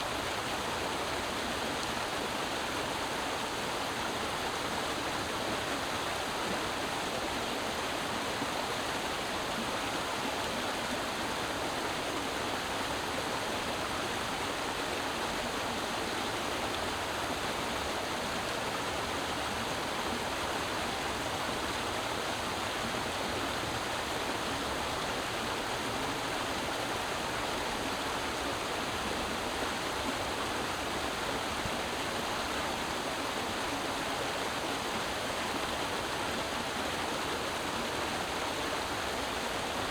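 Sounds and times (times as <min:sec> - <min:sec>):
creek babbling over rocks: 0:00.0 - 0:39.9.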